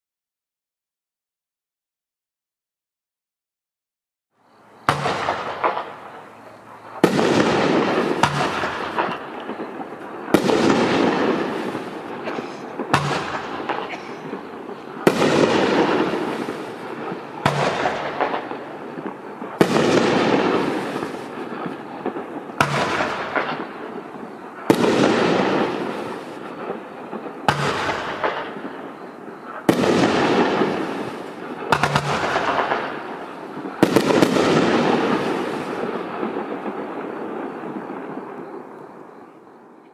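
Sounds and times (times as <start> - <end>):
firework shots: 4.8 - 39.4.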